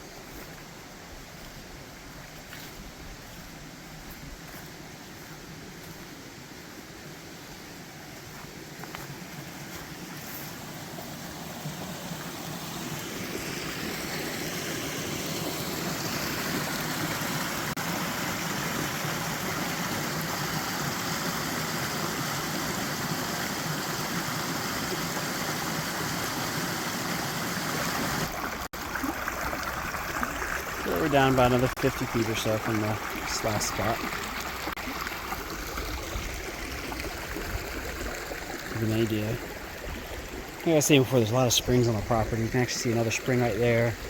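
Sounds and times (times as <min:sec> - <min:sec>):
water rushing over rocks: 0:08.5 - 0:44.0.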